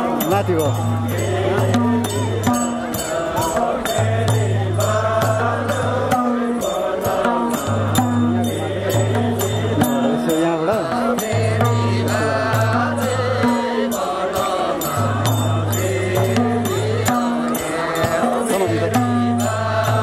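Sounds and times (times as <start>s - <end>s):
voices chanting together: 0.0s - 20.0s.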